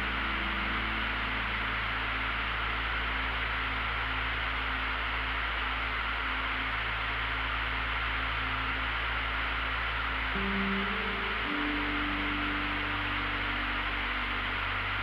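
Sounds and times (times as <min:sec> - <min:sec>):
aircraft cabin drone: 0:00.0 - 0:15.0.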